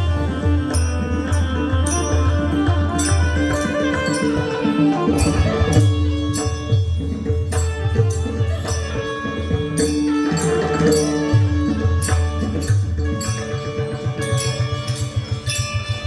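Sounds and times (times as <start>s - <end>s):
hand-drum beats: 0.0s - 16.0s
small cymbal clashes: 0.0s - 16.0s.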